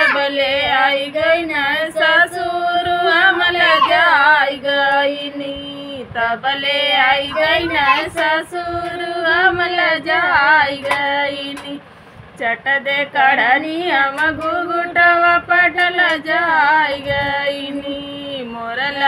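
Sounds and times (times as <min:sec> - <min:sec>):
women singing a folk song: 0:00.0 - 0:19.0.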